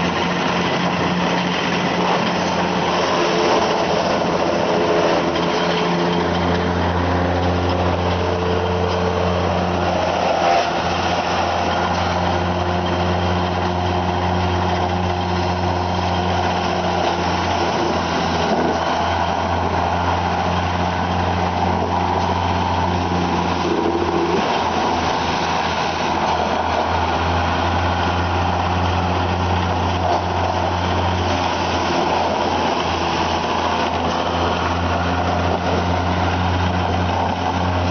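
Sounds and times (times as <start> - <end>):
wood chipper engine running: 0.0 - 37.9.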